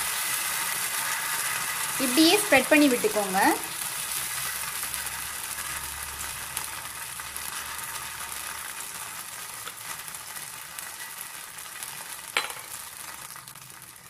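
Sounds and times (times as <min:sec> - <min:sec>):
batter sizzling in oil: 0:00.0 - 0:14.0.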